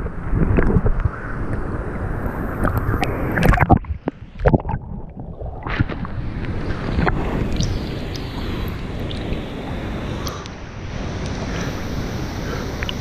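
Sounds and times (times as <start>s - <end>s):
river water splashing: 2.3s - 13.0s.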